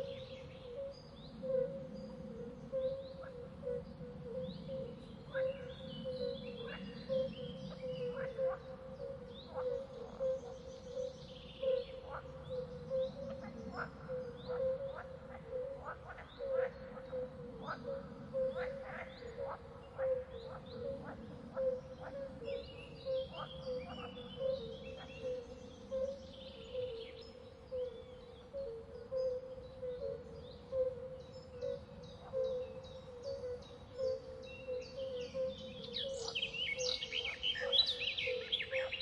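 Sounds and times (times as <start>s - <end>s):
pulsing wildlife chorus: 0.0s - 39.0s.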